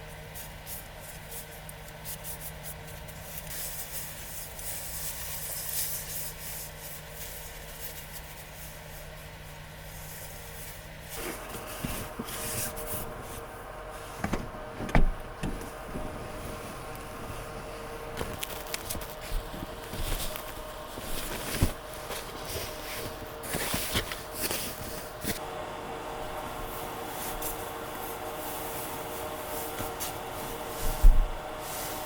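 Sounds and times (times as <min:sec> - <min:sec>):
rustling of things handled: 0:00.0 - 0:25.4, 0:26.4 - 0:32.0
faint steady hum: 0:00.0 - 0:32.0.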